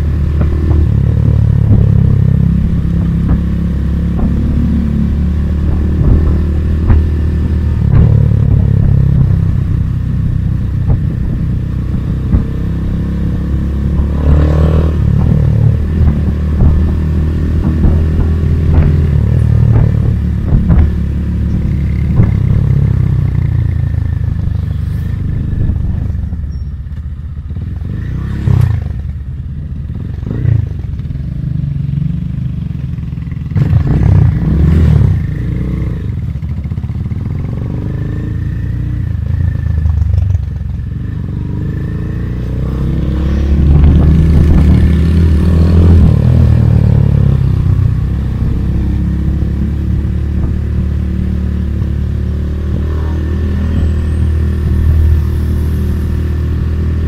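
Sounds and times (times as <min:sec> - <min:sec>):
motorcycle engine revving: 0:00.0 - 0:26.6, 0:27.3 - 0:57.0.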